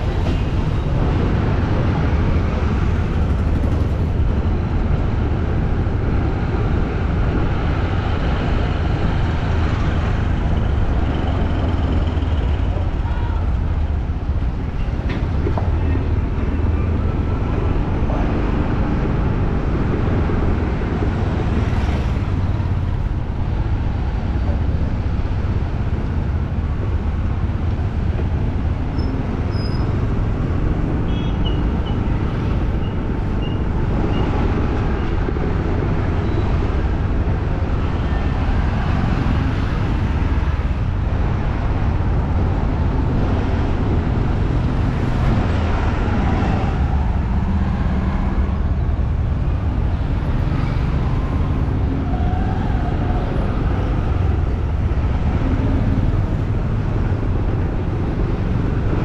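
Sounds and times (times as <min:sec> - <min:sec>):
traffic noise: 0:00.0 - 0:59.0.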